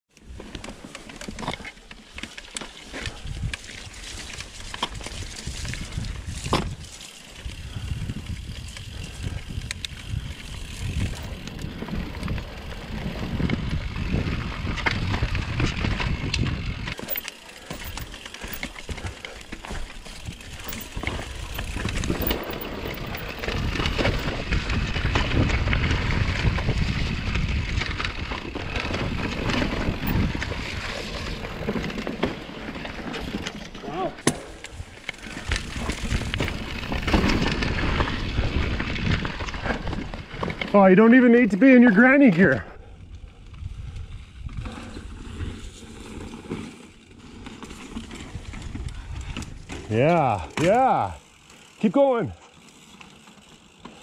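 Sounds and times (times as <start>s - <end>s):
bike tyres rolling over dirt: 0.1s - 54.0s
bike rattling: 0.2s - 54.0s.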